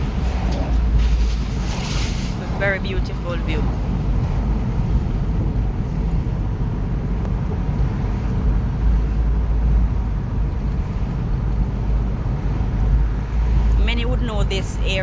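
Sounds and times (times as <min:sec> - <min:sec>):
car road and wind rumble: 0:00.0 - 0:15.0.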